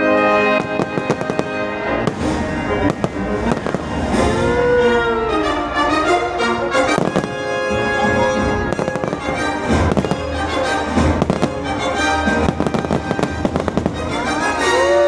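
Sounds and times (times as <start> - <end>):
orchestral music over speakers: 0.0 - 15.0
fireworks bursting with deep booms: 0.6 - 14.6.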